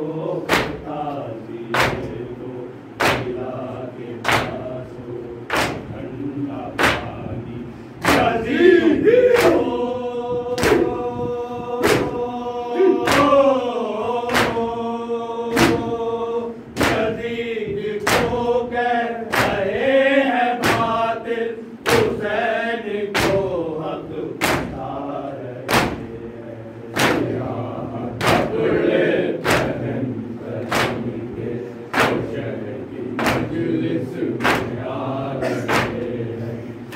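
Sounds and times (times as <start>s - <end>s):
men chanting in unison: 0.0s - 36.9s.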